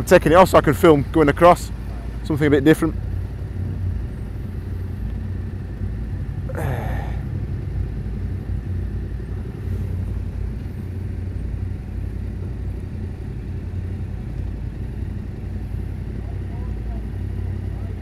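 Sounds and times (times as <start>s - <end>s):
motorcycle engines idling: 0.0s - 18.0s.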